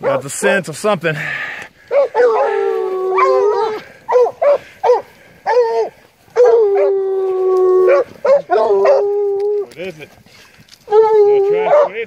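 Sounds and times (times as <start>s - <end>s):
hounds baying: 0.0s - 0.6s, 1.7s - 12.0s.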